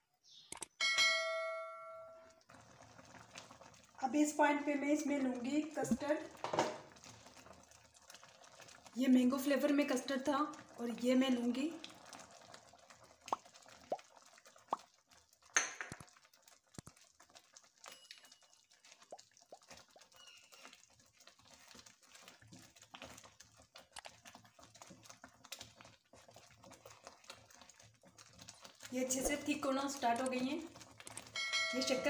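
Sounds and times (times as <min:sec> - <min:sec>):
bubbling pops: 0:05.4 - 0:31.4.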